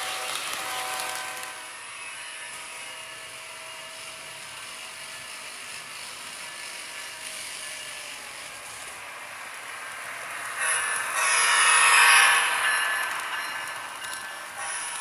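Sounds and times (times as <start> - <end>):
model train whirring on track: 0.0 - 15.0.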